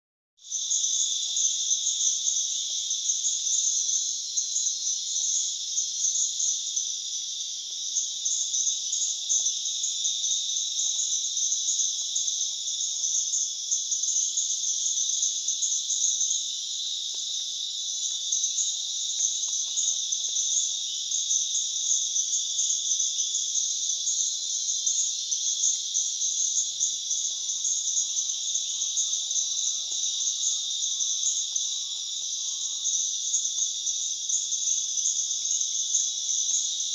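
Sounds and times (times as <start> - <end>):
insects trilling: 0.4 - 36.9.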